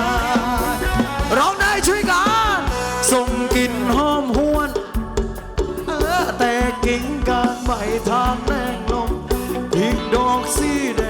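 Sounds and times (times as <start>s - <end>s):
person singing: 0.0s - 11.0s
sliding melodic lead: 0.0s - 11.0s
steady drum beat: 0.0s - 11.0s.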